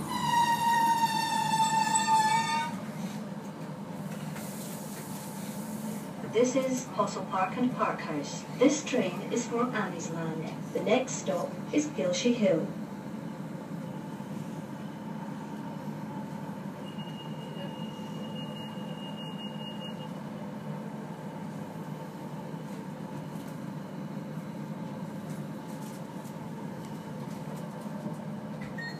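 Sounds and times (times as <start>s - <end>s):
train interior hum: 0.0s - 28.9s.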